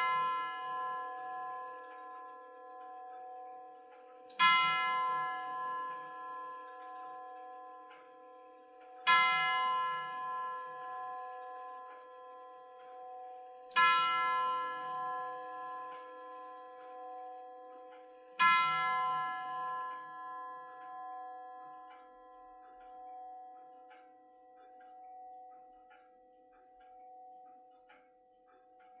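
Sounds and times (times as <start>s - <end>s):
clock chime tube ringing: 0.0s - 29.0s.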